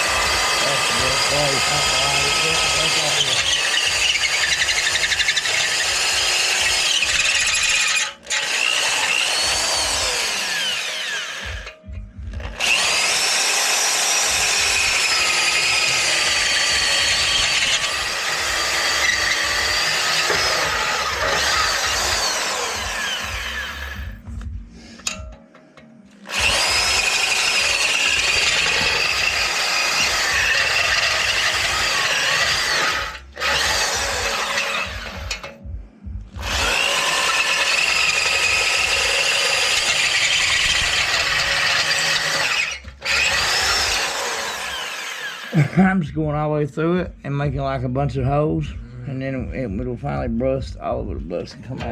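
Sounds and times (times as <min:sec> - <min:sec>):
power drill screeching against metal: 0:00.0 - 0:24.3, 0:26.2 - 0:35.6, 0:36.4 - 0:45.7.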